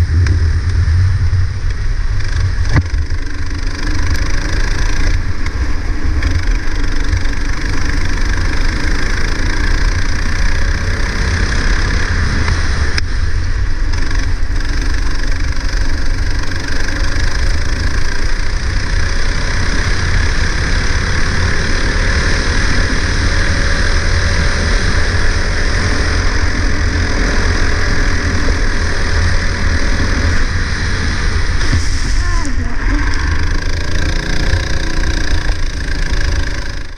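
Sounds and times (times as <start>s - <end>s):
heavy low rumble: 0.0s - 36.9s
go-kart engine revving: 2.0s - 36.9s.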